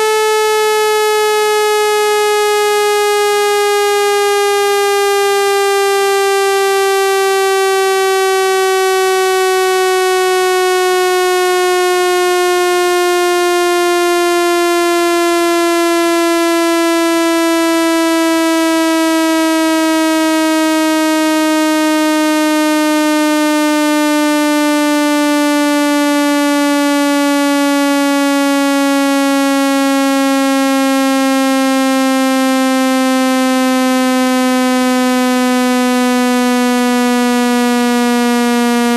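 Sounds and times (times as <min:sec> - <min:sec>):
buzzing tone sliding down in pitch: 0:00.0 - 0:38.9.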